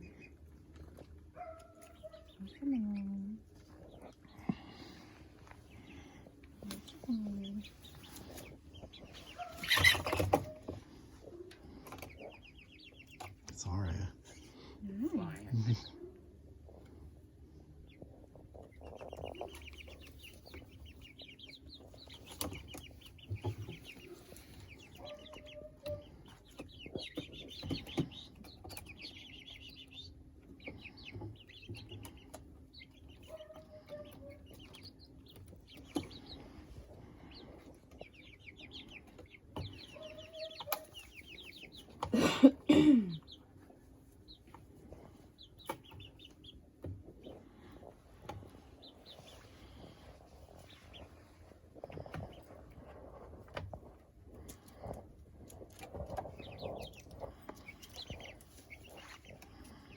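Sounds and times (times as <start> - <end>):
chicken clucks: 0.0 - 13.6, 14.5 - 59.9
chicks peeping: 0.0 - 59.9.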